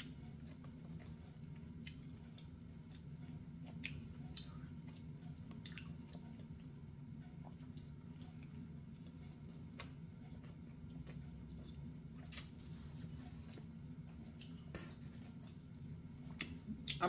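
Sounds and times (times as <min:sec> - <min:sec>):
person chewing pizza: 0:00.0 - 0:17.0
steady low hum: 0:00.0 - 0:17.0.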